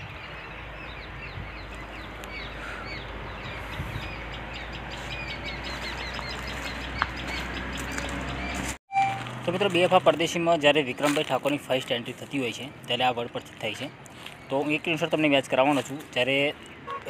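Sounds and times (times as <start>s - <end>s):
small birds chirping: 0.0s - 8.8s, 9.9s - 17.0s.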